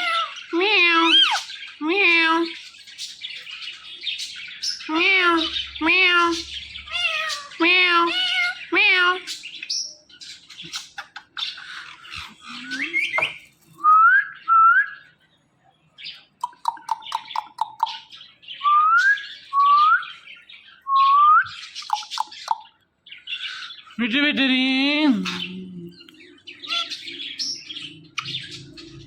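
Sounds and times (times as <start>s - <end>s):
parrot squawking and chirping: 0.0s - 13.7s, 16.0s - 20.8s, 21.5s - 29.0s.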